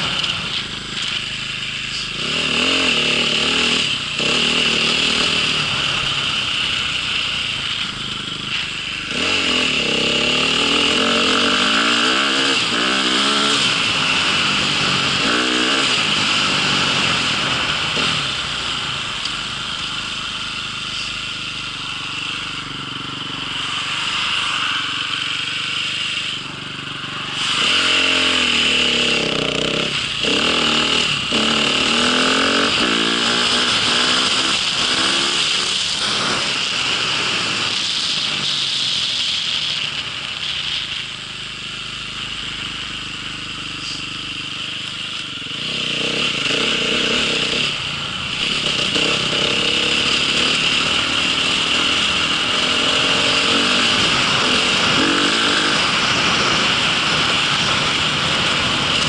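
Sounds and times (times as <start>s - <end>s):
small engine revving: 0.0s - 59.0s.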